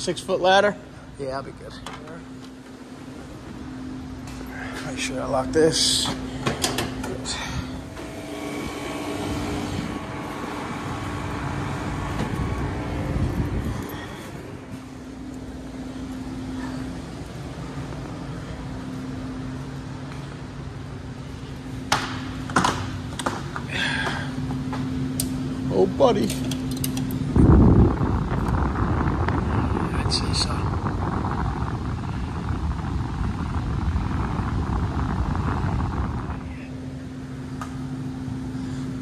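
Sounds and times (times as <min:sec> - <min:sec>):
loud mechanical rumble: 0:00.0 - 0:39.0
steady machine hum: 0:00.0 - 0:39.0.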